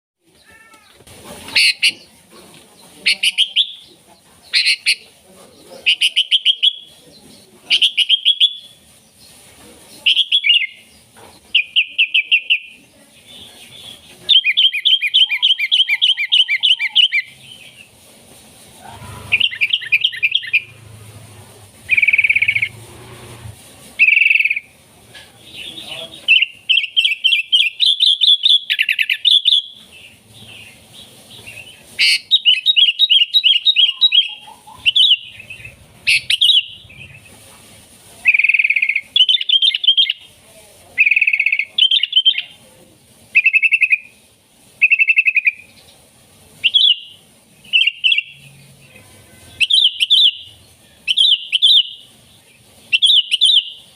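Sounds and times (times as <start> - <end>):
bulbul chattering song: 1.5 - 2.2, 2.9 - 5.2, 5.8 - 9.4, 10.0 - 18.0, 18.8 - 24.8, 25.4 - 37.4, 38.2 - 40.4, 41.0 - 42.6, 43.3 - 46.0, 46.6 - 53.9.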